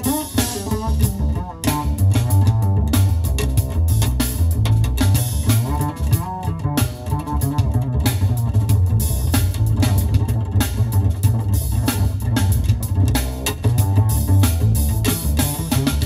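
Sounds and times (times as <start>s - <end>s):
loud bass and drum music: 0.0s - 16.0s.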